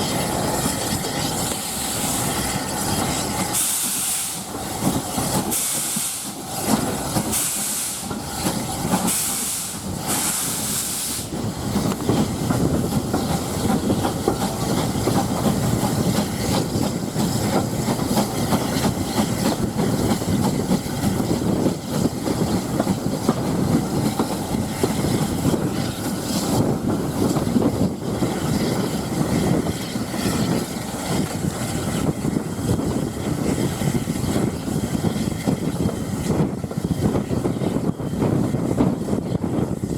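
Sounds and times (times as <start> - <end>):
steam locomotive hissing bursts: 0.0 - 37.0
train rumbling: 0.0 - 39.9.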